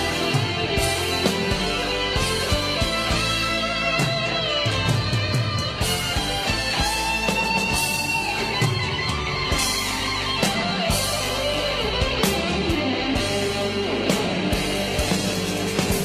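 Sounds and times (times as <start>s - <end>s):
drums and cymbals: 0.0s - 16.0s
lead guitar: 0.0s - 16.0s.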